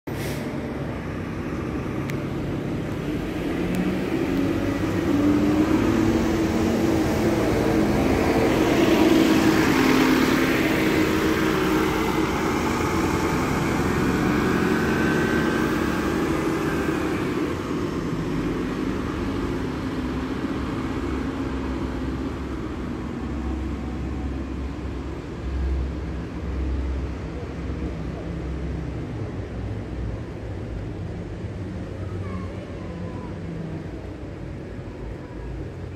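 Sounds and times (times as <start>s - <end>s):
bus diesel engine accelerating: 0.1s - 35.9s.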